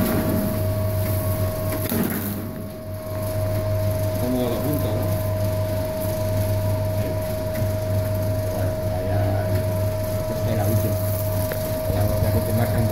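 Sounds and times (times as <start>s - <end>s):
packaging machine humming and whining: 0.0s - 12.9s.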